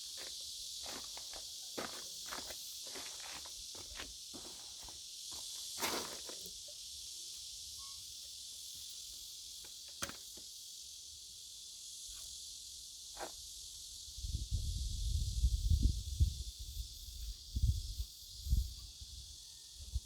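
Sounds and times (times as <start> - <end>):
steady hiss: 0.0 - 19.8.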